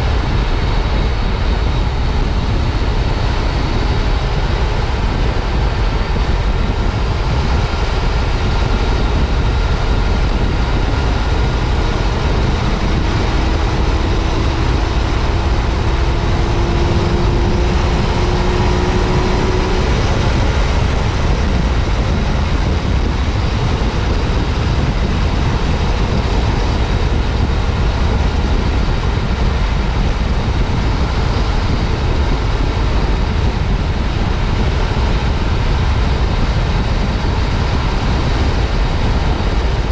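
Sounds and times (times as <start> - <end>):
motorcycle engine running: 0.0 - 39.9
road rush: 0.0 - 39.9
wind noise on microphone: 0.0 - 39.9.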